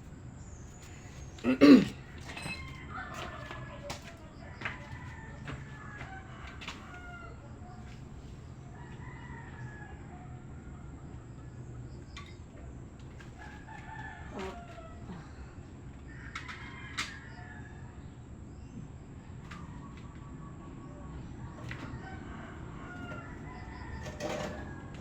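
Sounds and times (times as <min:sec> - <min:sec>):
roosters crowing: 0:01.5 - 0:11.5, 0:13.0 - 0:18.5, 0:19.2 - 0:25.0.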